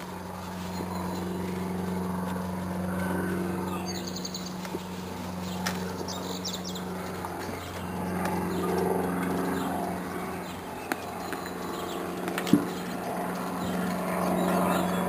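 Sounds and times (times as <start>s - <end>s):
low engine drone: 0.0s - 15.0s
small birds chirping: 0.0s - 15.0s.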